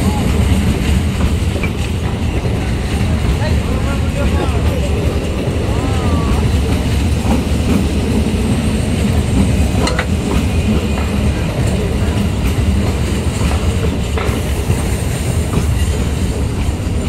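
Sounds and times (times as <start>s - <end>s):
train wheels rumbling on rail: 0.0s - 17.0s
wheels clicking over rail joints: 0.0s - 17.0s.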